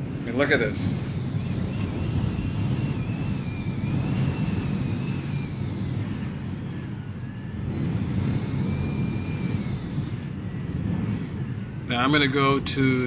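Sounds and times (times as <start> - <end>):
high wind whistle: 0.0 - 13.0
hurricane wind roaring: 0.0 - 13.0.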